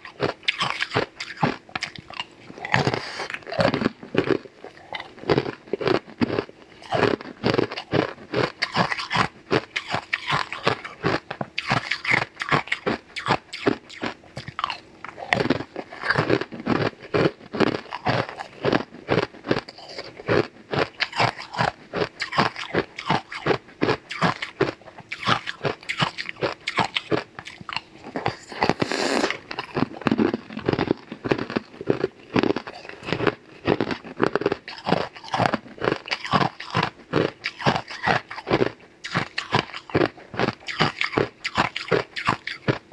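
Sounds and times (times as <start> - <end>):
crunching ice cubes: 0.0 - 42.8.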